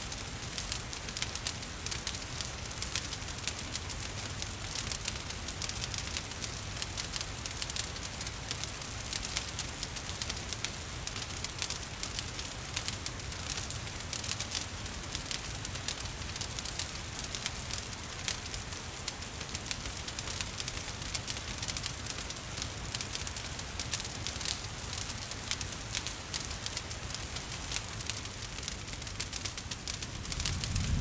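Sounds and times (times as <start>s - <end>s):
rain hiss: 0.0s - 31.0s
wood fire crackling: 0.0s - 31.0s.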